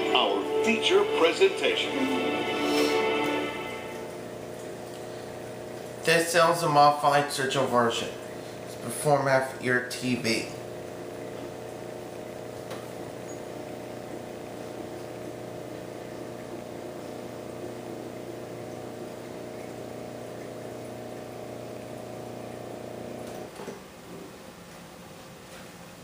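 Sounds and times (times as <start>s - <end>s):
electrical hum with low tones: 0.0s - 26.0s.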